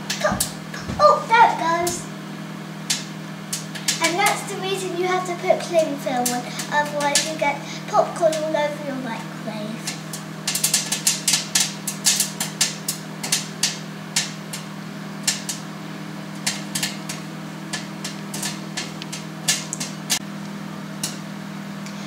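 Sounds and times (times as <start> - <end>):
microwave humming: 0.0 - 22.0
popcorn popping: 0.0 - 22.0.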